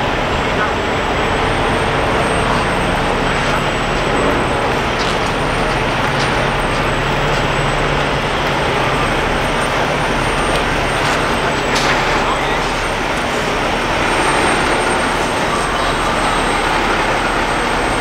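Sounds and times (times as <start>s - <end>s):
diesel truck engine drone: 0.0s - 18.0s.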